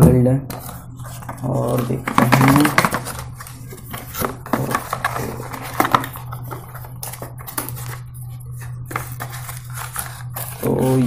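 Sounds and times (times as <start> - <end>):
low steady hum: 0.0 - 11.0
hands handling cardboard box: 0.5 - 11.0.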